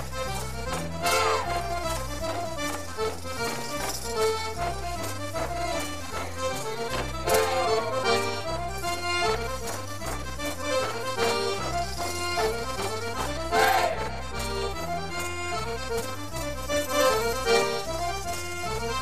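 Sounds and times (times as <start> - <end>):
accordion folk dance tune: 0.0 - 19.0.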